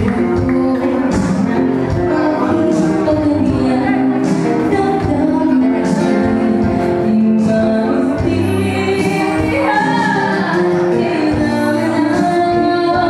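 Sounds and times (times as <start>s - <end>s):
acoustic guitar: 0.0s - 13.0s
woman singing: 0.0s - 13.0s.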